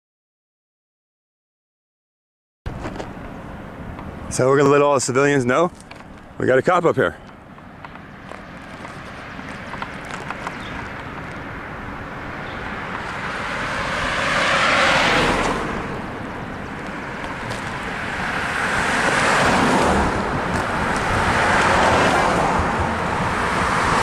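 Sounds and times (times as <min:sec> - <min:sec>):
cars passing by: 0:02.7 - 0:24.0.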